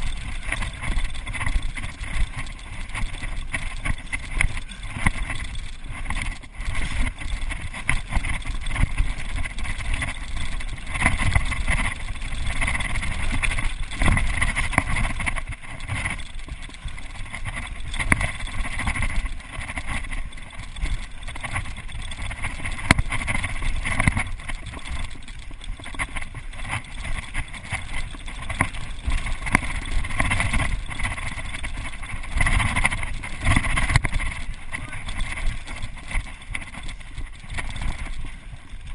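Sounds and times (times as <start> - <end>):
bike knocks and rattles: 0.0 - 38.9
tyres crunching on gravel: 0.0 - 38.9
wind on microphone: 0.0 - 38.9.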